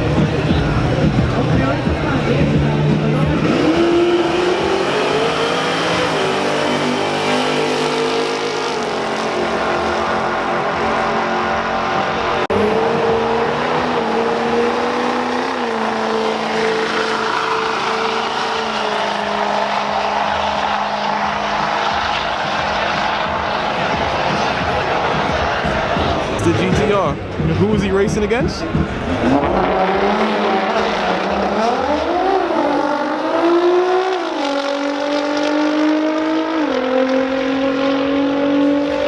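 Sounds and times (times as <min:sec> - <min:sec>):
another engine revving high: 0:00.0 - 0:27.5, 0:28.7 - 0:39.0
car engine at high revs: 0:00.0 - 0:39.0.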